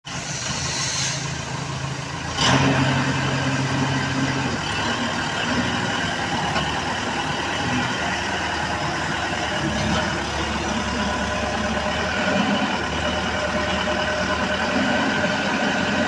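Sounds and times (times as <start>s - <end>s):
drilling rig engine running: 0.1s - 16.0s.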